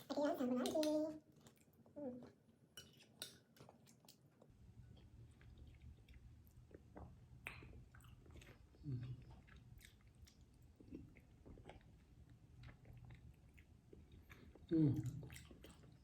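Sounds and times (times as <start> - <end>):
person chewing wet food: 2.9 - 16.0.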